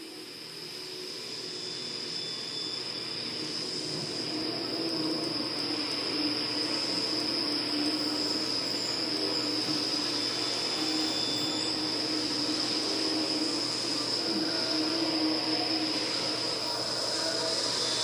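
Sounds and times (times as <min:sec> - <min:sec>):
electronic noise drone: 0:00.0 - 0:18.0.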